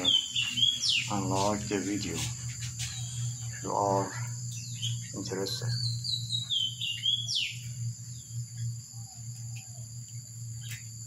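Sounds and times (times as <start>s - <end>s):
high-pitched insect drone: 0.0s - 11.0s
low hum: 0.0s - 11.0s
small birds chirping: 0.0s - 11.0s.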